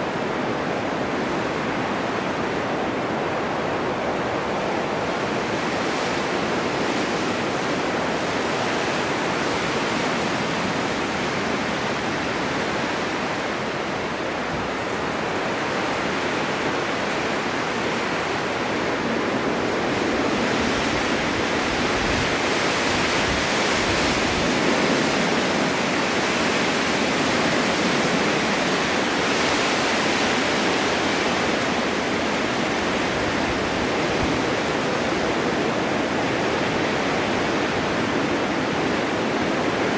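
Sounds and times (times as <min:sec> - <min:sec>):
snowstorm wind blowing: 0:00.0 - 0:39.9.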